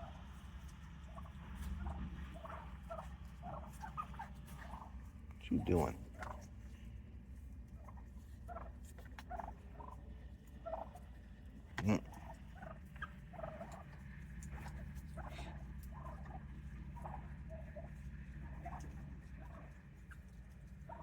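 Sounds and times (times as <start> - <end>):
low background hum: 0.0 - 21.0
wild turkeys calling: 0.0 - 21.0.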